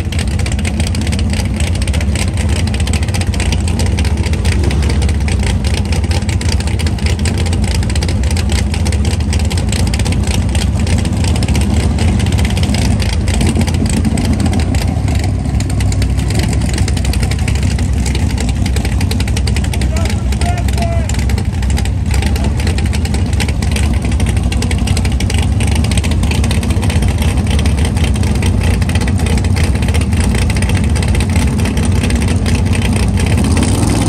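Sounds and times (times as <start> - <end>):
race car engine running: 0.0 - 34.0.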